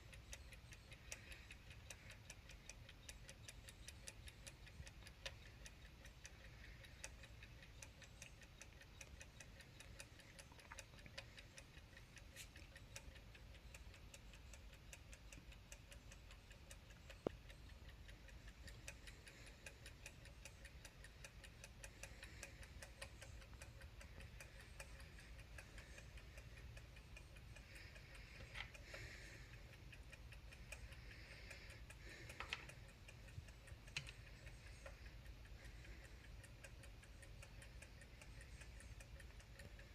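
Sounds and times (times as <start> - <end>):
sharp clock click: 0.0 - 39.9
wall clock ticking: 0.0 - 39.9.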